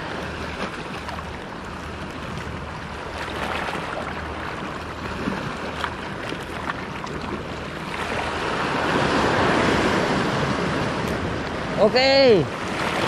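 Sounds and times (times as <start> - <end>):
waves washing against rocks: 0.0 - 13.0.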